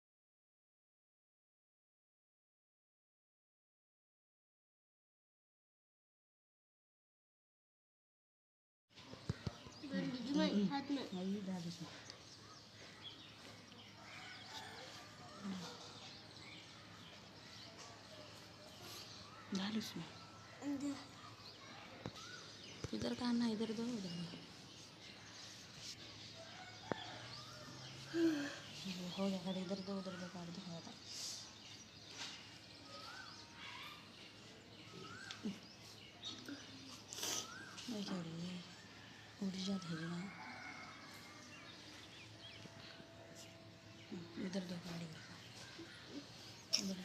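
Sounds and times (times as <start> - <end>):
birds chirping: 9.0 - 47.0.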